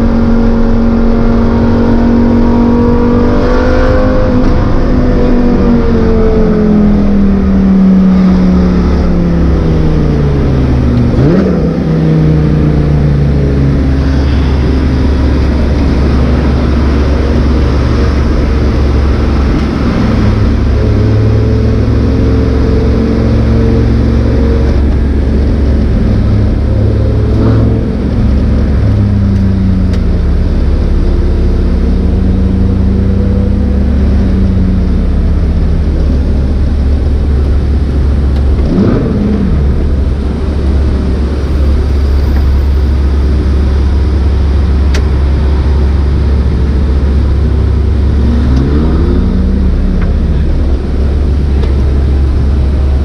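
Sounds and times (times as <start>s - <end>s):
car engine heard from cabin: 0.0s - 53.0s
low road drone: 0.0s - 53.0s.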